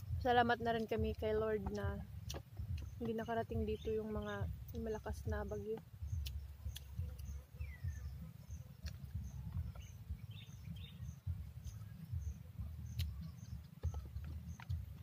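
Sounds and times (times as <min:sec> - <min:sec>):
insect chirping: 0:00.0 - 0:15.0
low uneven rumble: 0:00.0 - 0:15.0.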